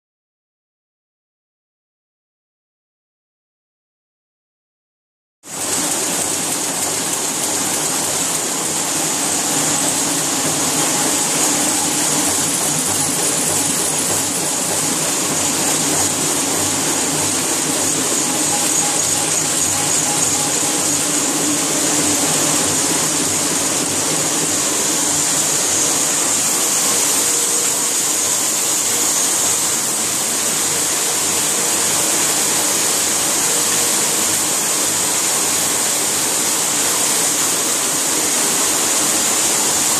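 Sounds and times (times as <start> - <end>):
printing press running with hiss: 5.5 - 39.9.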